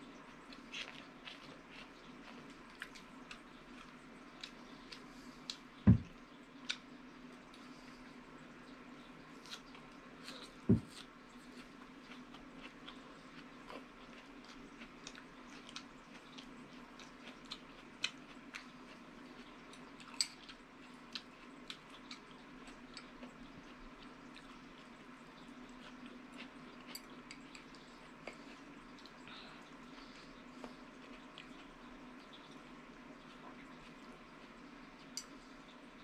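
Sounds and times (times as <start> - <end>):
person chewing: 0.5 - 6.9, 9.4 - 32.6.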